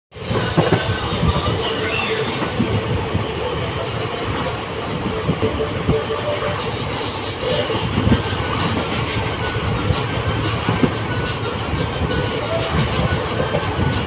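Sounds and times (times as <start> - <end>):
train wheels rumbling on track: 0.1 - 14.0.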